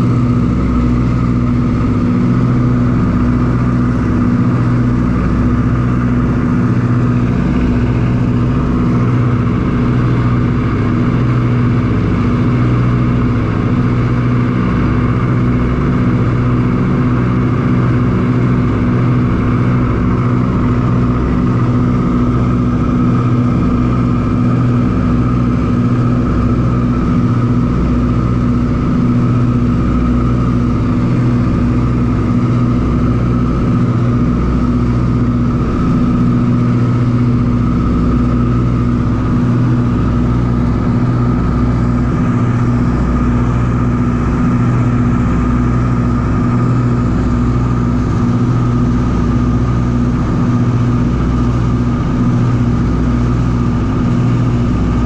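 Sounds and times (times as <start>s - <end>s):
propeller aircraft engines droning: 0.0s - 55.0s.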